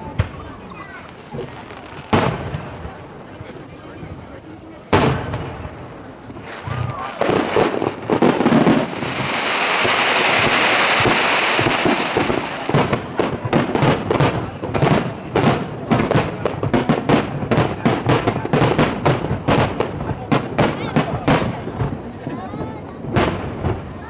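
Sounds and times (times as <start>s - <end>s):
firework hiss: 0.0s - 24.0s
firework shells bursting: 0.2s - 3.8s, 4.8s - 24.0s.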